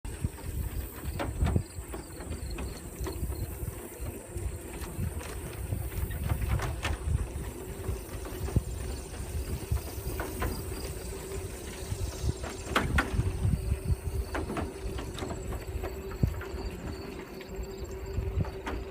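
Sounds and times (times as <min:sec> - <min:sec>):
wind buffeting microphone: 0:00.1 - 0:18.9.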